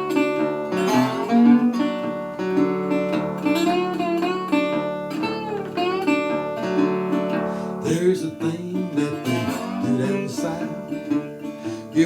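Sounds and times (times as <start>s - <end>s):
fingerpicked resonator guitar: 0.0s - 12.0s.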